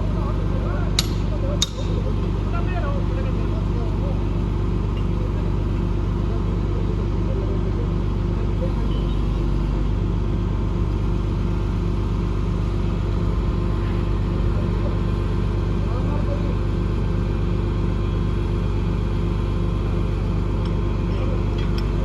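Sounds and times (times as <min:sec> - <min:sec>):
large engine droning: 0:00.0 - 0:22.0.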